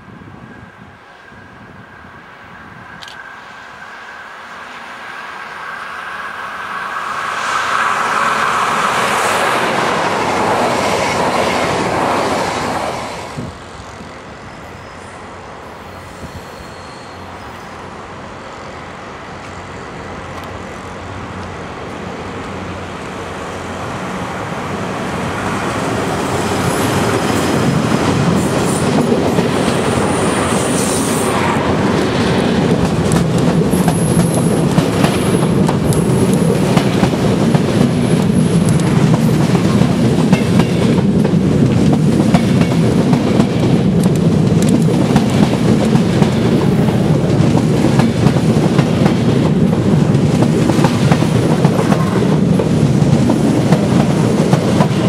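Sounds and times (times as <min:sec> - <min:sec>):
train passing: 0:00.0 - 0:55.0
wheel and rail noise: 0:00.3 - 0:55.0.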